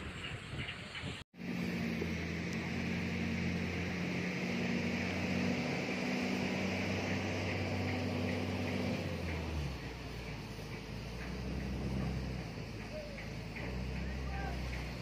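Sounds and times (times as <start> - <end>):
water and wind hiss: 0.0 - 15.0
boat engine running: 1.4 - 15.0.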